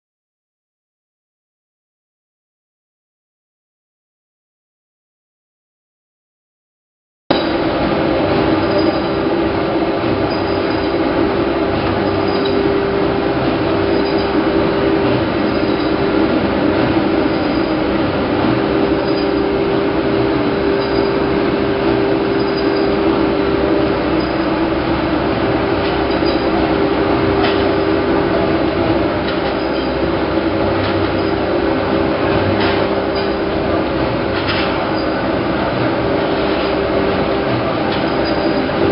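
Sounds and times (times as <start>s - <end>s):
cutting machine hum: 7.3s - 38.9s.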